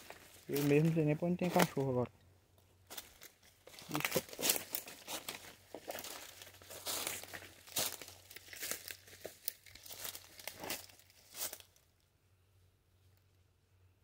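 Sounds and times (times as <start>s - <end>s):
dry leaves and branches rustling: 0.0s - 12.1s.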